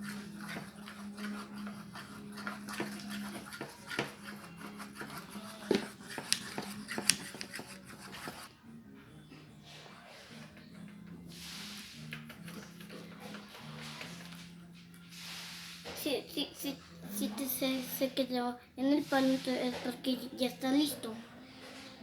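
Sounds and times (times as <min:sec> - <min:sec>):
slime stirred with sticky squelches: 0:00.0 - 0:08.6, 0:11.3 - 0:22.0.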